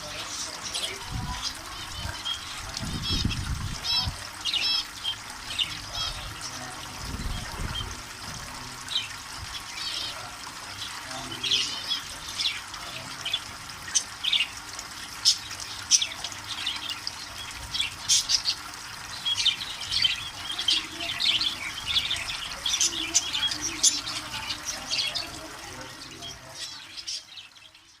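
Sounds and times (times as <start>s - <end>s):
birds chirping and squawking: 0.0s - 28.0s
running water splashing: 0.0s - 28.0s.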